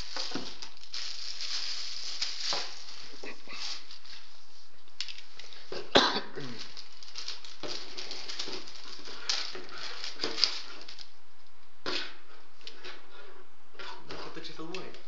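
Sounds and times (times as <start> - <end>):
plastic wrapping crinkling: 0.0 - 11.6, 14.3 - 15.0.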